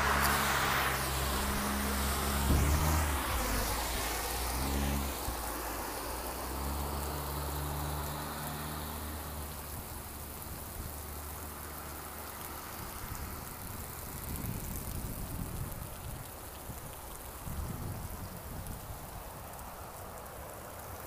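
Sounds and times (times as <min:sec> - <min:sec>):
hail and rain falling: 0:00.0 - 0:21.0.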